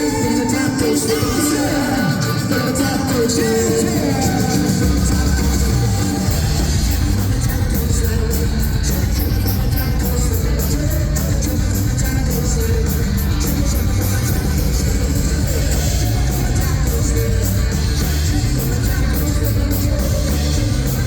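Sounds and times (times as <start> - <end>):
drums beating on cymbals: 0.0 - 21.0
live rock band playing: 0.0 - 21.0.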